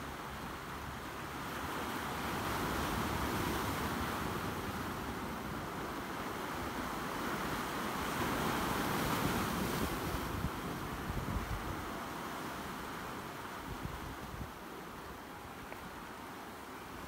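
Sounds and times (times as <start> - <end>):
waves breaking on rocky shore: 0.6 - 17.0.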